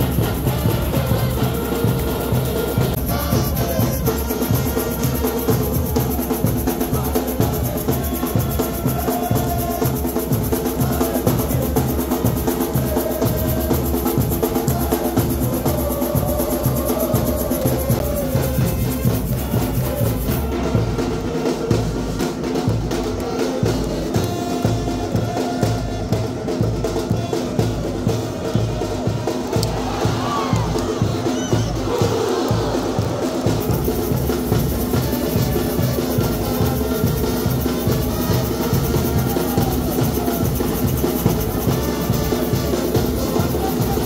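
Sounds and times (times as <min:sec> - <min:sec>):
music with drum beat: 0:00.0 - 0:44.0.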